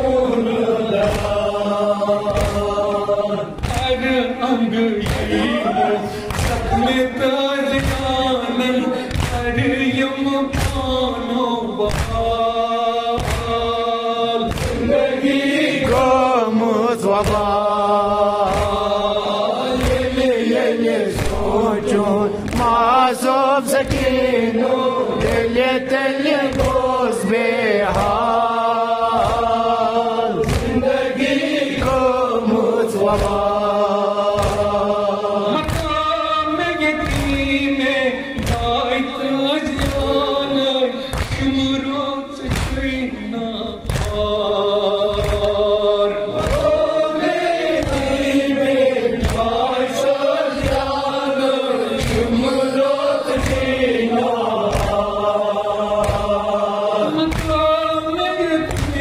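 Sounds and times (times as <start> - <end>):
group of men chanting: 0.0 - 59.0
man singing a lament: 0.0 - 59.0
hands slapping chests: 1.0 - 4.0, 5.0 - 7.0, 9.0 - 9.7, 10.5 - 11.2, 11.8 - 16.3, 17.2 - 27.1, 27.8 - 38.8, 39.6 - 40.2, 41.0 - 41.8, 42.4 - 43.0, 43.8 - 51.3, 52.0 - 52.5, 53.3 - 59.0.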